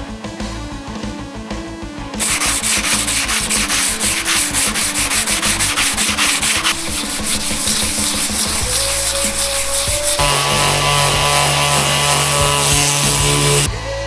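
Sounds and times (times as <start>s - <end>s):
background music: 0.0s - 14.0s
abrasive rubbing strokes: 2.2s - 13.7s.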